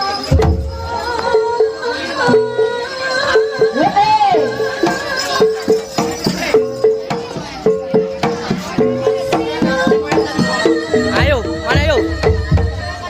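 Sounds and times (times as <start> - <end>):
gamelan melody: 0.0 - 13.0
metallophone notes: 0.0 - 13.0.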